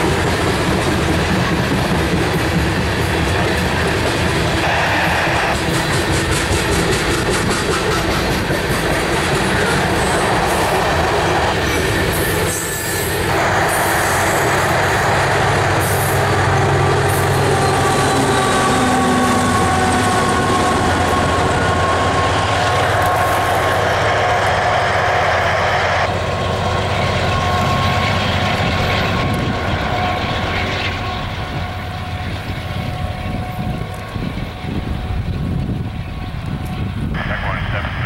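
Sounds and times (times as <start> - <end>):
diesel locomotive passing: 0.0 - 38.0
train wheels rumbling on rails: 0.0 - 38.0.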